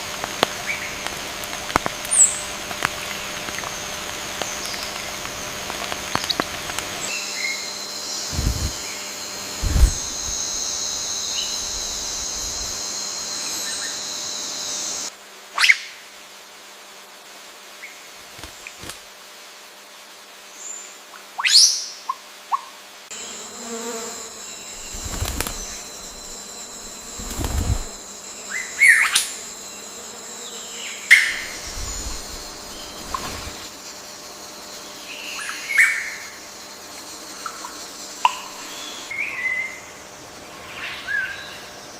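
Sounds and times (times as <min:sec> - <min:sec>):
high insect drone: 0:00.0 - 0:15.4, 0:23.1 - 0:41.9.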